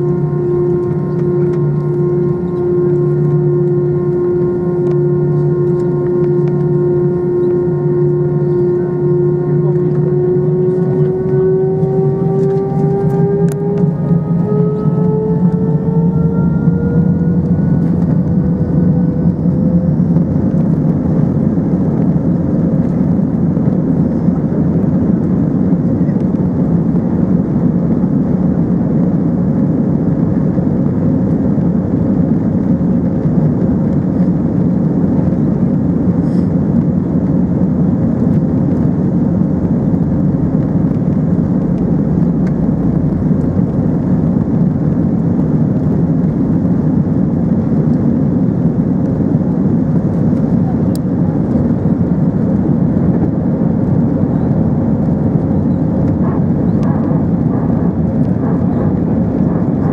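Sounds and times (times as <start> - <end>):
engine whine rising in pitch: 0.0 - 59.9
jet engine rush: 0.0 - 59.9.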